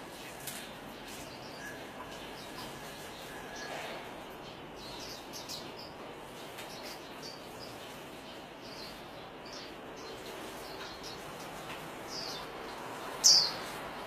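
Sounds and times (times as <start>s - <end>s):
birds giving short high chirps: 0.9s - 14.0s.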